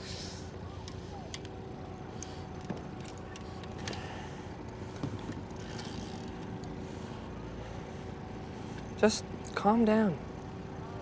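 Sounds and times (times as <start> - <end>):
idling boat motor: 0.3 - 11.0.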